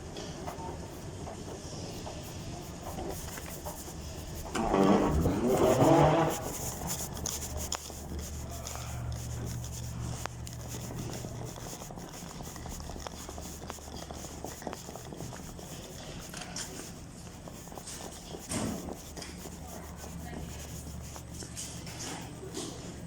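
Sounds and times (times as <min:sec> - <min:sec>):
rubbing and rustling: 0:00.8 - 0:23.0
low steady hum: 0:01.9 - 0:23.0.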